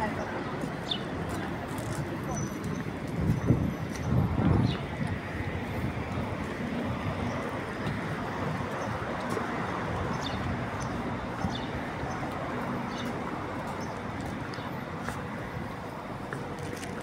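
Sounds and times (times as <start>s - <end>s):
footsteps on stone paving: 0.0s - 17.0s
street noise: 0.0s - 17.0s.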